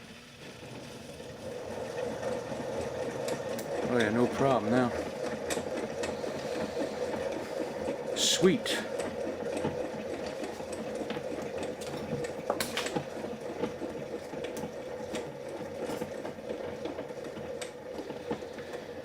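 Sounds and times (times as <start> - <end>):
ceiling fan motor humming: 0.0 - 19.0.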